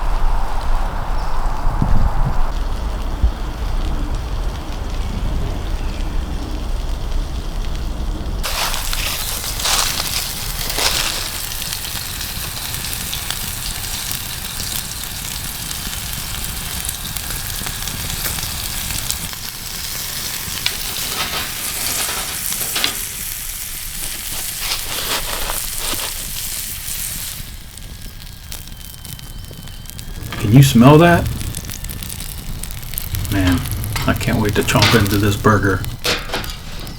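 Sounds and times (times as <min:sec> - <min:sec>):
burger sizzling over fire: 0:00.0 - 0:36.9
crackles and pops: 0:00.0 - 0:36.9.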